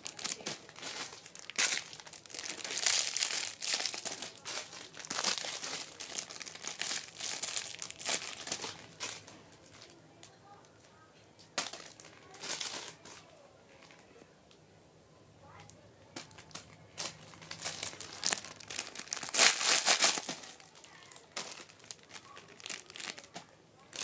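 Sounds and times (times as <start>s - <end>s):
crinkly packaging rustling: 0.0s - 10.8s, 11.5s - 14.2s, 15.5s - 24.0s.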